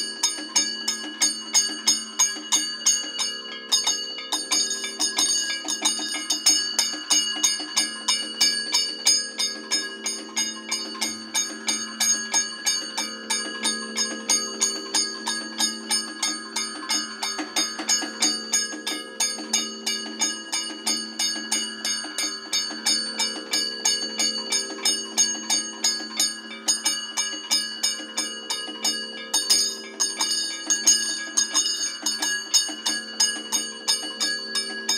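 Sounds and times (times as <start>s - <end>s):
metal gong: 0.0s - 34.9s
small cymbals: 0.0s - 34.9s.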